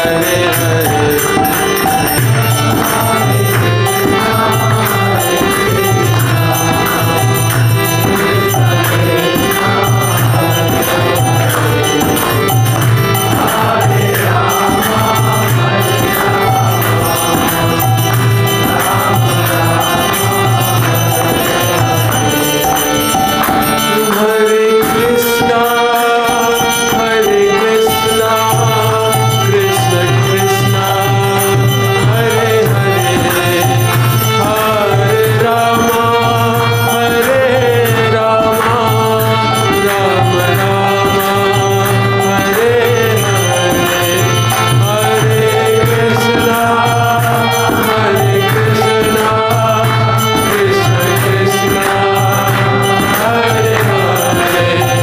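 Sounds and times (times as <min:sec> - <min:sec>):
harmonium: 0:00.0 - 0:55.0
lead singer chanting: 0:00.0 - 0:55.0.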